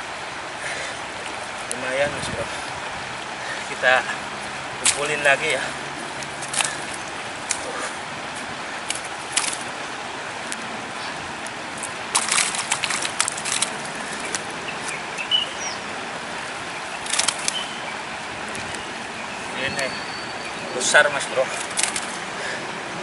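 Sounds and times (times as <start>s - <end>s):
shallow river water running: 0.0s - 23.0s
splashes and wet rustles of net: 0.6s - 22.7s.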